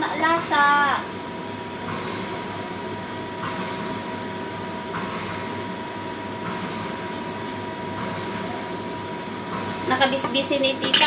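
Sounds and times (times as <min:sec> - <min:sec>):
range hood fan whirring: 0:00.0 - 0:11.0.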